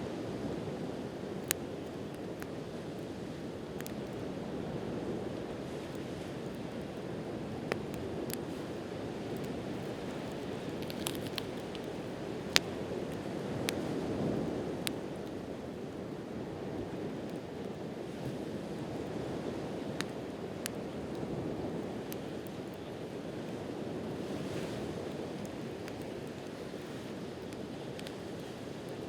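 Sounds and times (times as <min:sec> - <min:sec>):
campfire crackling and popping: 0:00.3 - 0:29.0.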